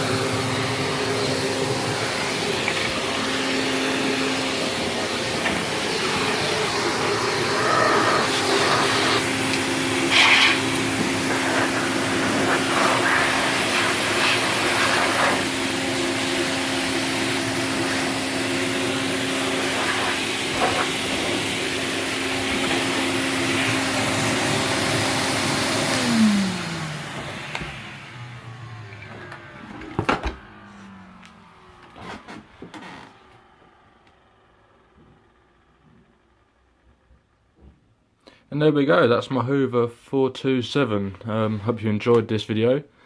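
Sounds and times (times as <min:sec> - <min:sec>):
vacuum cleaner running: 0:00.0 - 0:37.7.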